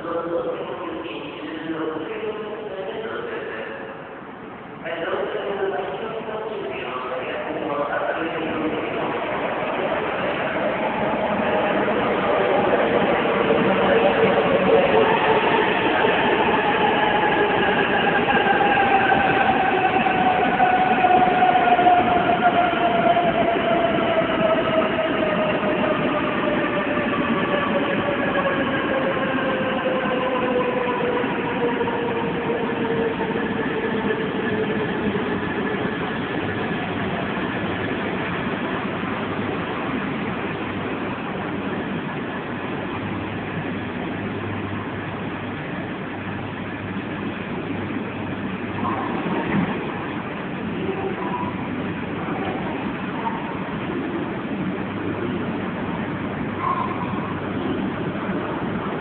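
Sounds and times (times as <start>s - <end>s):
train rushing rumble: 8.0s - 59.0s.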